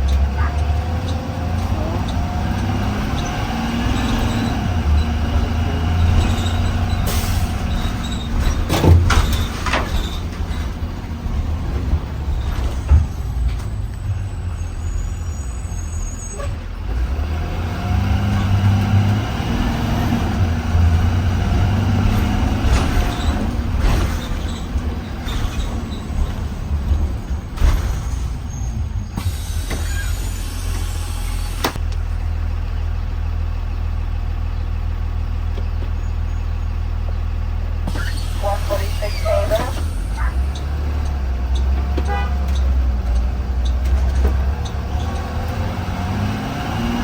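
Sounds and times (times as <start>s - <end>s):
bus engine running: 0.0s - 47.0s.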